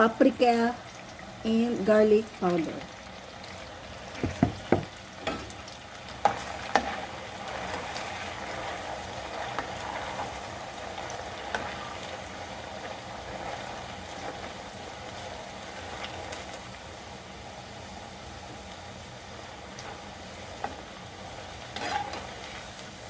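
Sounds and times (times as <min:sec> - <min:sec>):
potatoes sizzling in hot oil: 0:00.0 - 0:23.0.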